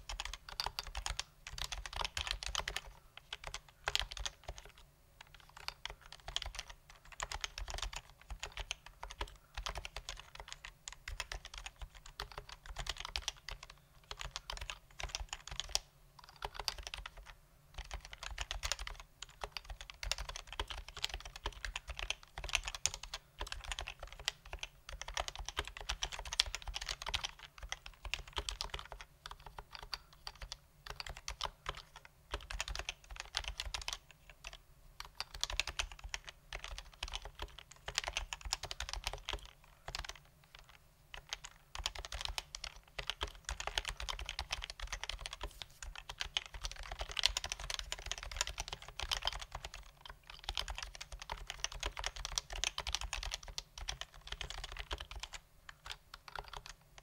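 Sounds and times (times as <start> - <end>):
keyboard typing: 0.0 - 57.0.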